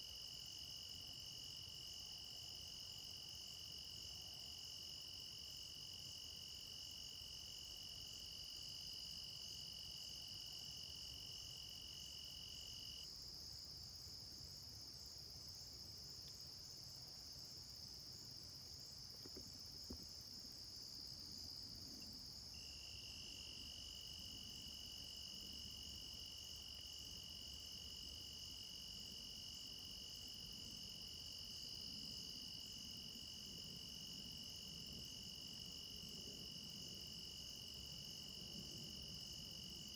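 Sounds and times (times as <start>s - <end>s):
high continuous insect trill: 0.0s - 39.9s
lower steady insect trill: 0.0s - 39.9s.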